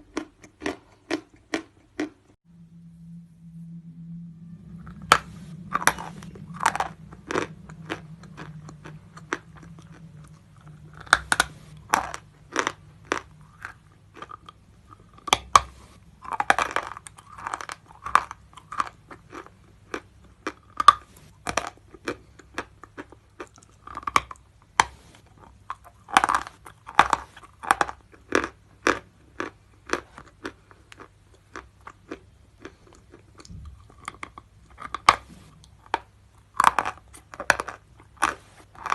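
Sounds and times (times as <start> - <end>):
chalk being chewed and crunched: 4.8 - 38.9.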